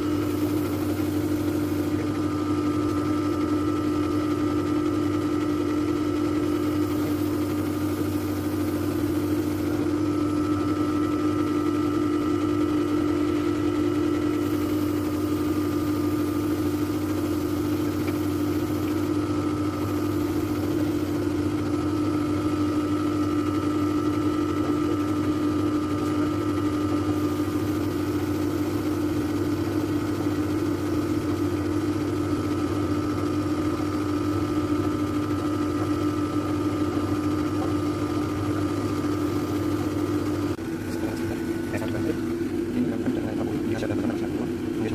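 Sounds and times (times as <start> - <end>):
air conditioner compressor hum: 0.0 - 44.9
high whine: 0.0 - 44.9.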